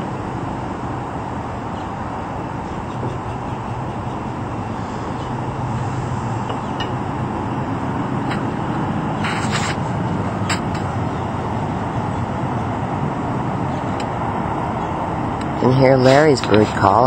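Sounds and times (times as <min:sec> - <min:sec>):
traffic-like background hum: 0:00.0 - 0:17.0.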